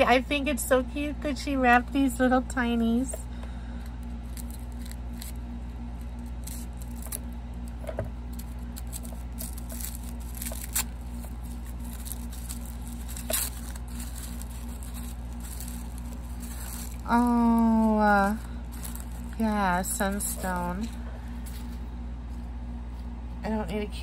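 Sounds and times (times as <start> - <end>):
steady low hum: 0.0 - 24.0
wrapping rustling and crinkling: 3.9 - 23.4.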